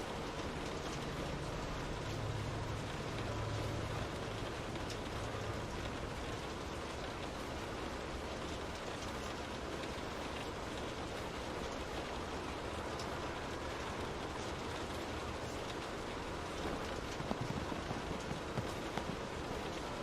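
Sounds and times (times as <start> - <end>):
rain pattering on a window: 0.0 - 20.0.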